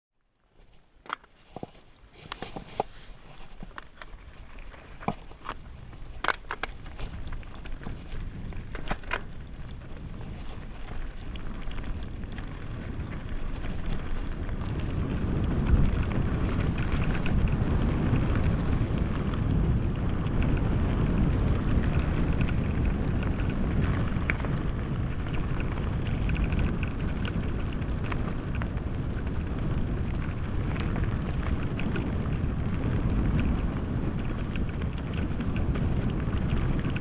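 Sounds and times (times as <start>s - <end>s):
bike clicks and rattles: 0.3s - 37.0s
bike tyre noise on dirt: 0.3s - 37.0s.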